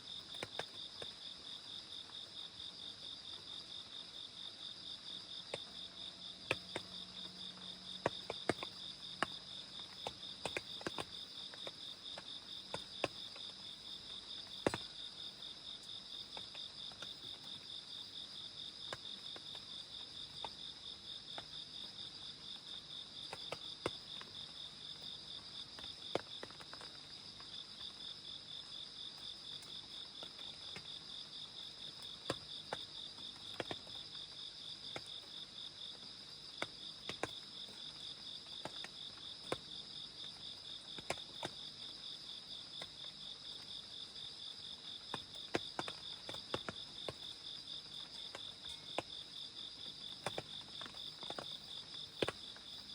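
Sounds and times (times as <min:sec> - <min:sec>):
crickets trilling: 0:00.1 - 0:52.9
raindrops dripping: 0:00.1 - 0:52.9.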